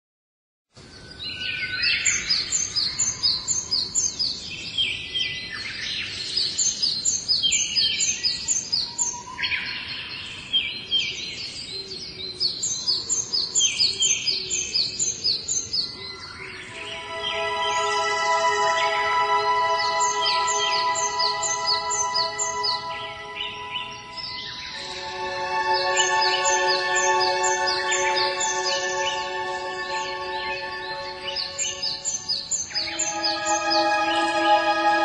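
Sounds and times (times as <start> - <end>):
steady background hiss: 0.8 - 35.0
birds chirping: 1.0 - 35.0.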